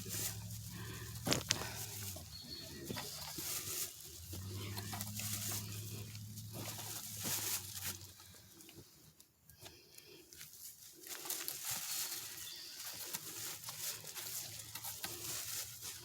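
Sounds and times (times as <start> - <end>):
footsteps through dry leaves: 0.0 - 8.7, 10.4 - 16.0.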